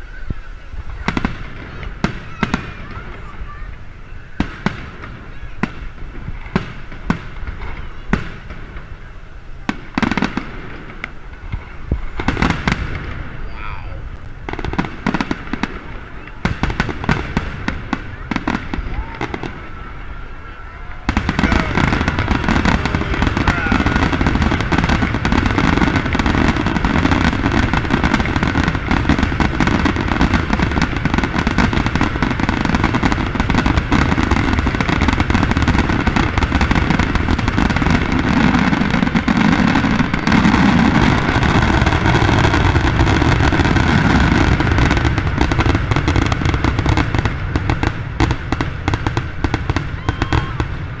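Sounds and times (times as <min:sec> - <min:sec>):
crackling fireworks stars: 0:00.0 - 0:51.0.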